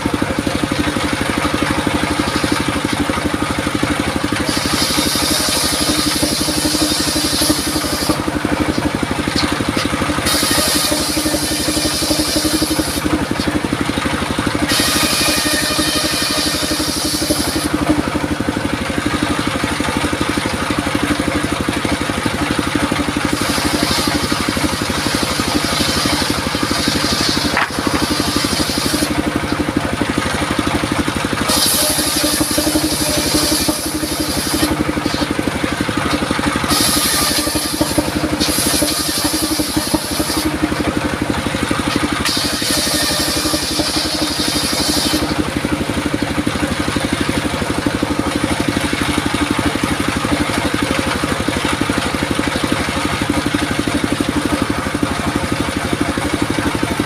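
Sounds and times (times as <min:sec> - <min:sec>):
circular saw cutting wood: 0:00.0 - 0:57.0.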